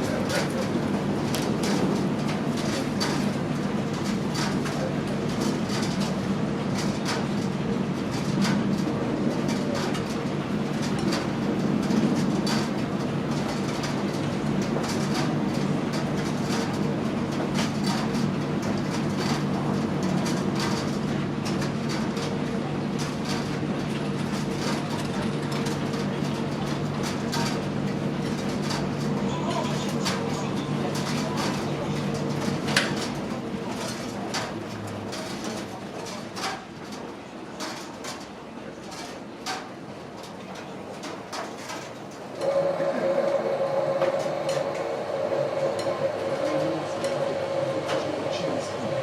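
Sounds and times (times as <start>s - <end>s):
clicks and knocks of tumbling load: 0.0s - 42.4s
tumble dryer drum humming: 0.0s - 49.0s.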